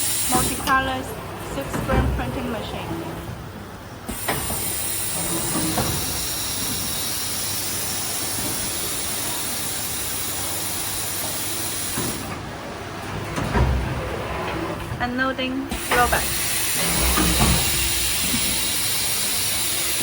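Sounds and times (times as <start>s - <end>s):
printing machine hissing: 0.0s - 15.0s, 15.6s - 20.0s.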